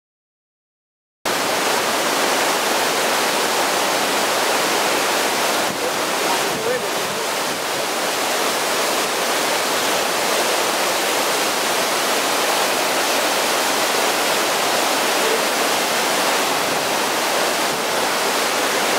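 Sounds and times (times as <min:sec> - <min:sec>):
waterfall rushing: 0:01.3 - 0:18.9.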